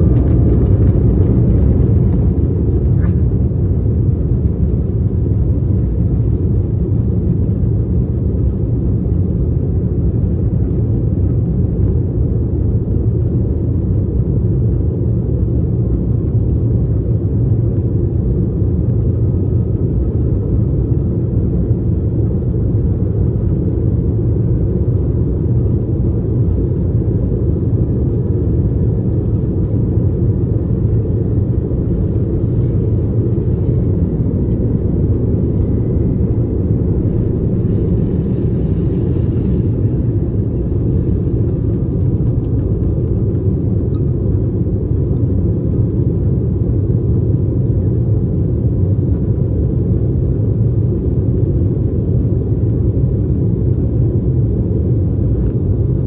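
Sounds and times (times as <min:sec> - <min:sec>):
faint engine whine: 0:00.0 - 0:56.0
jet engines rumbling in cabin: 0:00.0 - 0:56.0.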